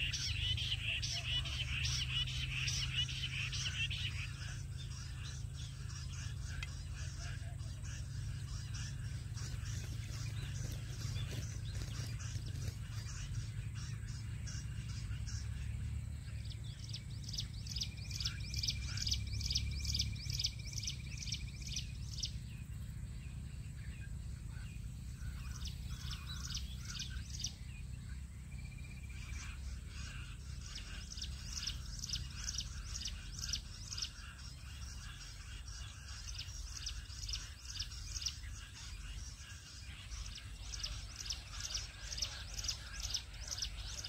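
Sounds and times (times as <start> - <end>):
quail high chirps: 0.0 - 22.4, 23.8 - 27.7, 28.7 - 44.0
low rumble: 0.0 - 44.0.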